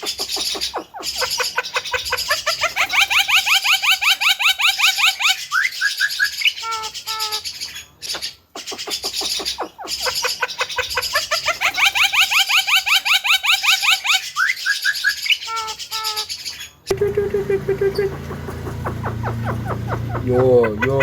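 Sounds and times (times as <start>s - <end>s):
myna chirping and whistling: 0.0s - 21.0s.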